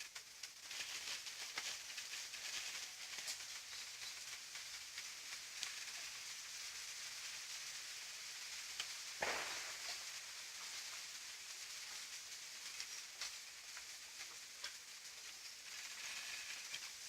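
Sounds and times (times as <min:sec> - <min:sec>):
campfire hissing and crackling: 0:00.0 - 0:17.0.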